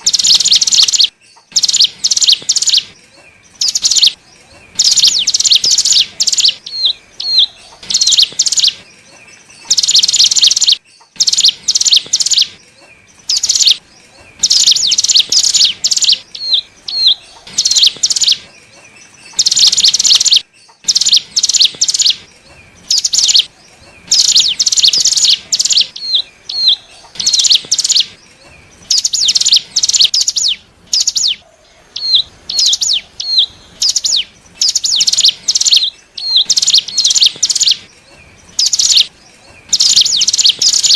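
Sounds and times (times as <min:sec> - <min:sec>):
bird singing rapid chattering: 0:00.0 - 0:31.4, 0:32.0 - 0:40.9.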